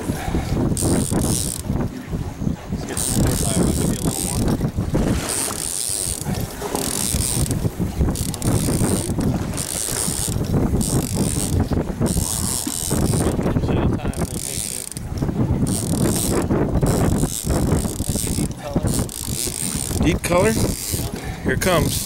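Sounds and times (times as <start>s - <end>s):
wind and water rumble: 0.0s - 22.0s
fishing reel gears clicking: 0.8s - 1.7s, 3.0s - 4.6s, 5.3s - 13.4s, 14.1s - 22.0s.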